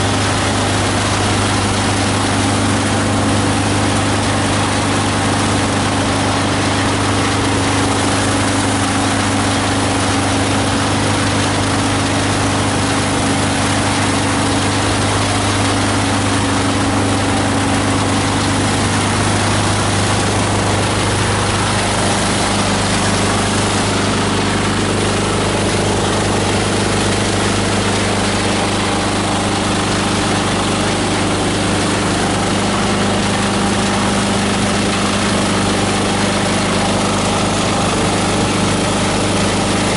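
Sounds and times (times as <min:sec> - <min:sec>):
diesel engine driving grinder: 0:00.0 - 0:39.9.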